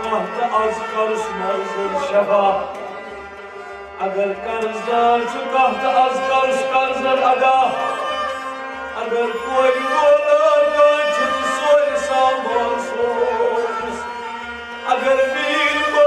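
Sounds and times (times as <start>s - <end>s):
man singing: 0.0s - 3.1s, 4.0s - 16.0s
harmonium: 0.0s - 16.0s
string instruments: 0.0s - 16.0s.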